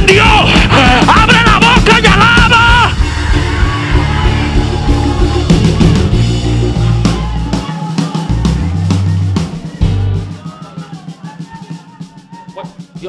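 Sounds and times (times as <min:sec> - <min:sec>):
held bass notes: 0:00.0 - 0:10.5
drum hits: 0:00.0 - 0:13.0
loud band music: 0:00.0 - 0:13.0.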